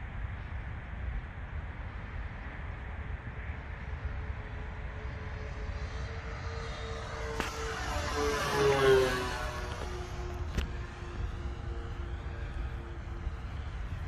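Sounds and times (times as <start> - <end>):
model plane propeller drone: 0.0 - 14.0.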